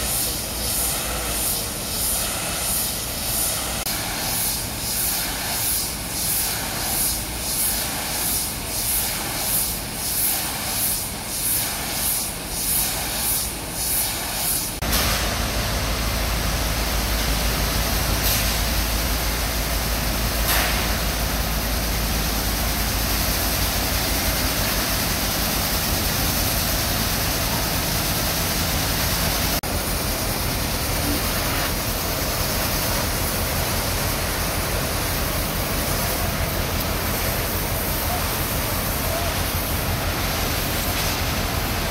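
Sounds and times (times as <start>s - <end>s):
high-pressure water jet hissing: 0.0s - 41.9s
pump engine drone: 0.0s - 41.9s.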